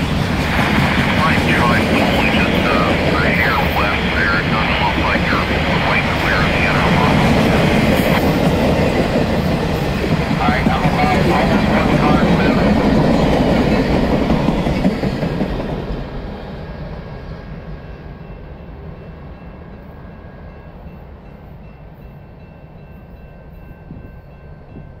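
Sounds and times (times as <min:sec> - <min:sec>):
freight train wheels on track: 0:00.0 - 0:25.0.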